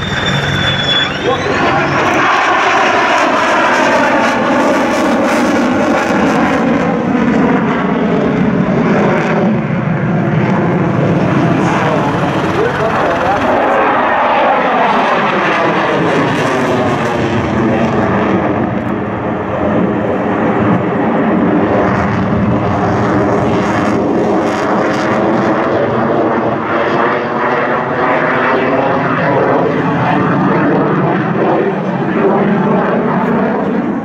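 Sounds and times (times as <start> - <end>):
jet engine roaring: 0.0 - 34.0.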